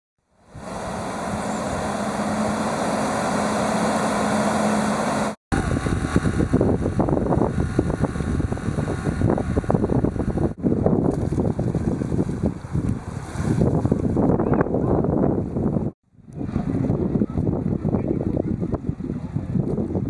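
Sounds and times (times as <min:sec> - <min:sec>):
low hum: 0:00.3 - 0:20.0
steady rushing noise: 0:00.3 - 0:20.0
gusty rushing noise: 0:00.4 - 0:20.0.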